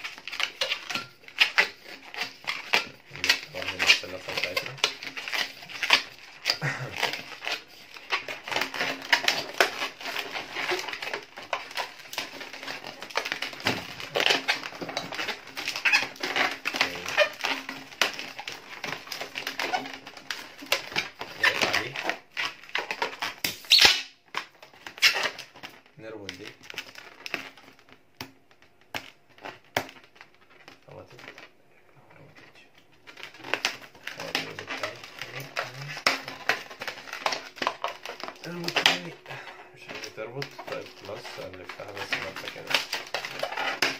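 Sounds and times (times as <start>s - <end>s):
balloons squeaking and rubbing: 0.0s - 31.5s, 32.2s - 43.9s.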